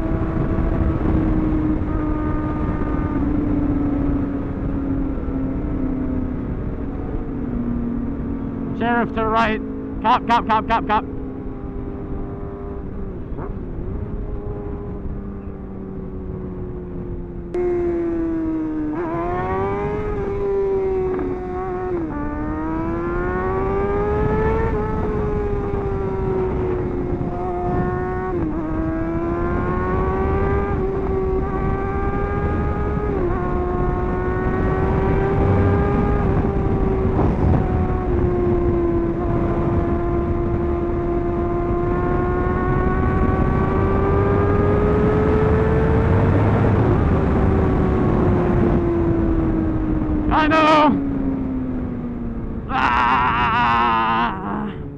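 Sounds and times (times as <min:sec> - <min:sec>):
wind noise: 0:00.0 - 0:10.3, 0:18.4 - 0:54.9
motorcycle engine accelerating: 0:00.0 - 0:54.9.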